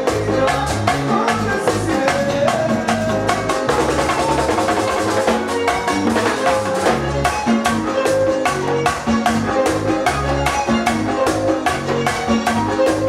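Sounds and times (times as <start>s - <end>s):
live band playing bachata: 0.0s - 13.0s.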